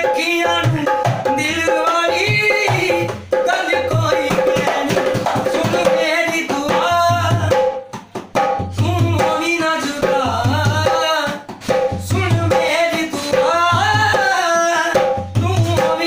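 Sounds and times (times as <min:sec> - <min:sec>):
man singing: 0:00.0 - 0:07.9, 0:08.6 - 0:16.0
hand drum thumping and slapping: 0:00.6 - 0:14.3.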